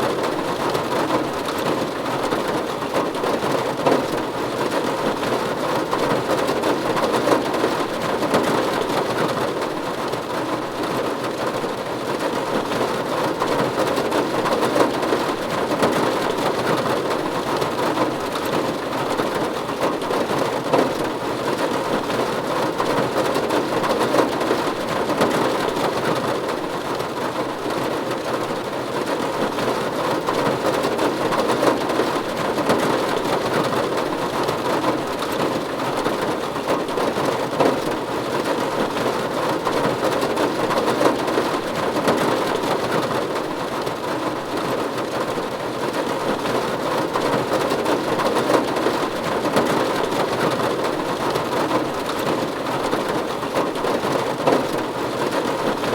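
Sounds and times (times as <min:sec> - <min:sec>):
rain on a roof: 0:00.0 - 0:55.9.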